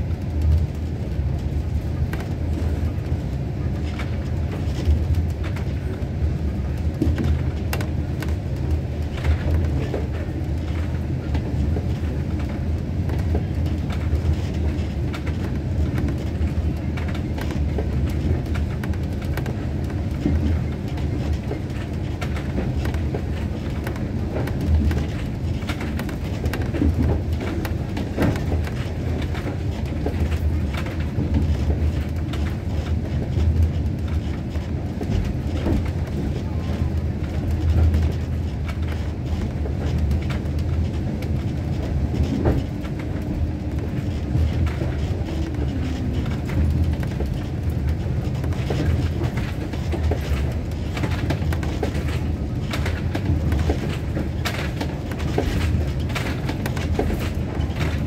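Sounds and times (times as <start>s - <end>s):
train rumbling on track: 0.0s - 58.0s
wheels clacking and knocking: 6.8s - 58.0s.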